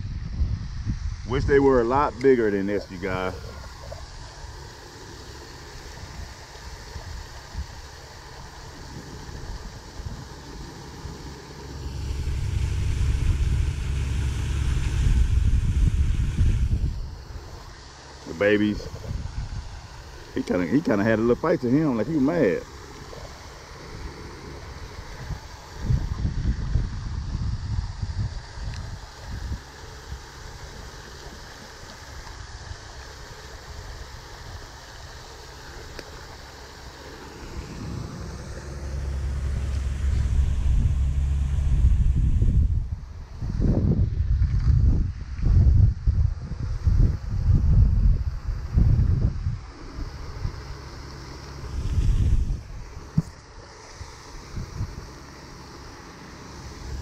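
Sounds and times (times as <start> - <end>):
wind buffeting microphone: 0.0 - 30.2, 37.0 - 55.2.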